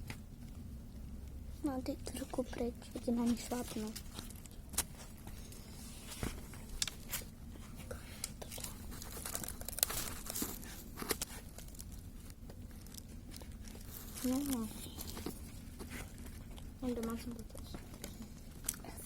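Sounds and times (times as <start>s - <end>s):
low steady hum: 0.0s - 19.0s
crinkling and tearing: 0.1s - 19.0s.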